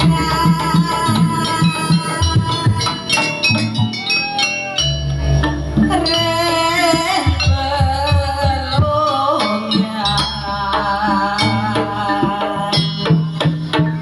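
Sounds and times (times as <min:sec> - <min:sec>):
gamelan ensemble playing: 0:00.0 - 0:14.0
hand drum strokes: 0:00.0 - 0:14.0
person singing wavering vocals: 0:00.0 - 0:14.0.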